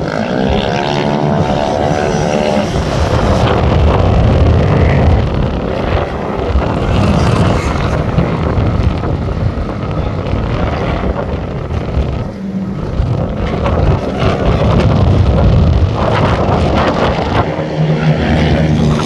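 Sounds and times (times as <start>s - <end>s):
distant racing motorcycle engines: 0.0s - 19.0s
wind buffeting microphone: 0.0s - 19.0s.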